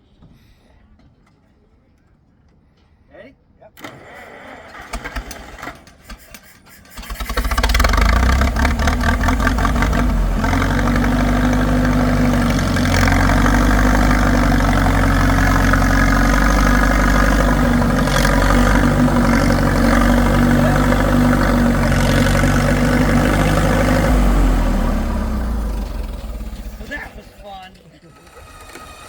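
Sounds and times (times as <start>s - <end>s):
engine cranking and idling: 3.8s - 29.0s.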